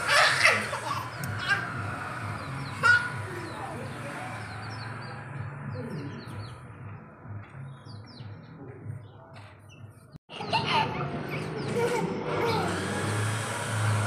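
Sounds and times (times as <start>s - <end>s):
caged birds chirping: 0.0s - 14.0s.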